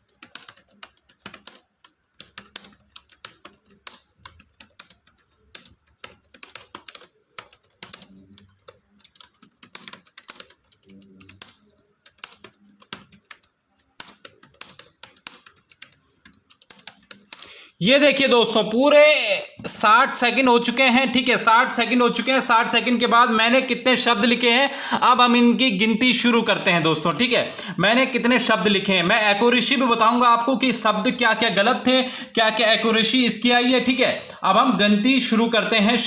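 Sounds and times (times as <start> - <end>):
fast keyboard typing: 0.0 - 18.6, 20.0 - 32.1.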